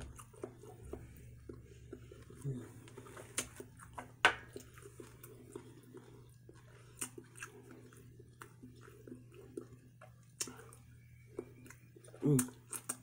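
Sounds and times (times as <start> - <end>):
person chewing: 0.0 - 13.0
steady low hum: 0.0 - 13.0.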